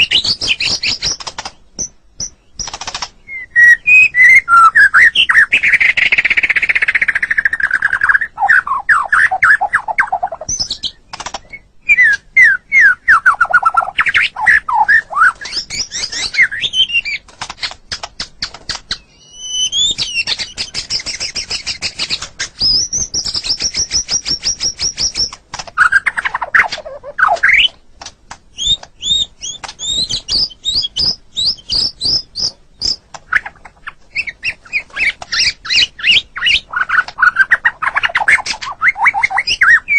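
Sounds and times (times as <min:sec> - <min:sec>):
songbird singing varied song: 0:00.0 - 0:27.9, 0:28.5 - 0:39.9.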